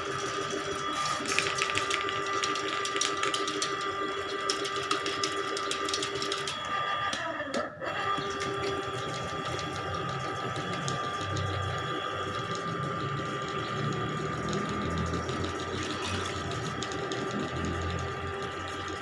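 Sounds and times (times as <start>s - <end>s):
drain cleaning machine motor whine: 0.0s - 19.0s.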